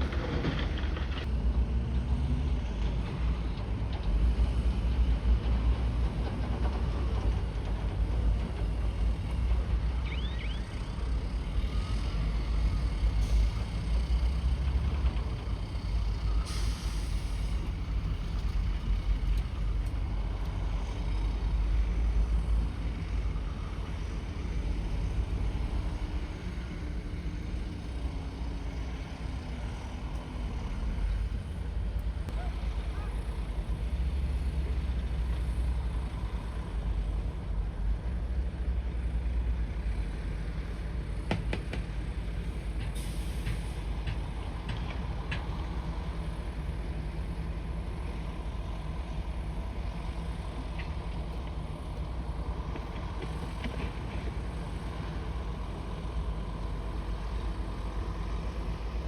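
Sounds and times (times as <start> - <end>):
diesel engine deep rumble: 0.0 - 59.0.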